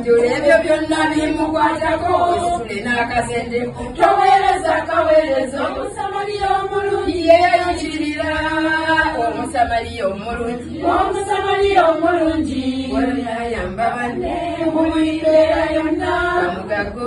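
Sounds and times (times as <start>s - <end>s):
women singing together: 0.0s - 17.0s.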